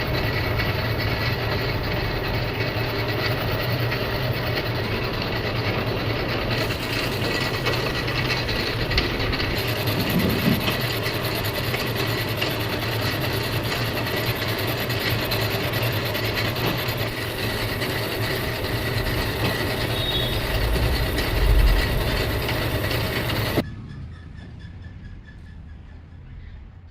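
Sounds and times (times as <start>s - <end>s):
low hum: 0.0s - 13.8s, 16.6s - 25.8s
lathe grinding: 0.0s - 23.6s.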